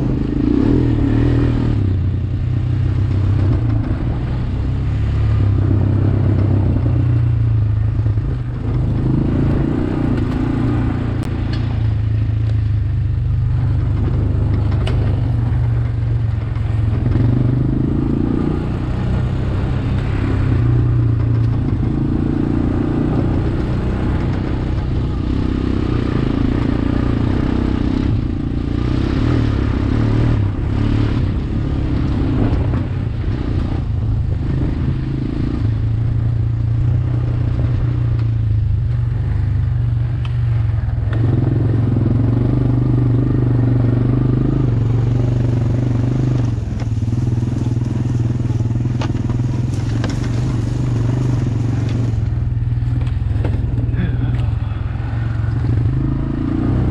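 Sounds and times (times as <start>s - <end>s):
quad engine revving: 0.0s - 7.4s, 8.2s - 11.8s, 13.4s - 38.4s, 41.0s - 56.9s.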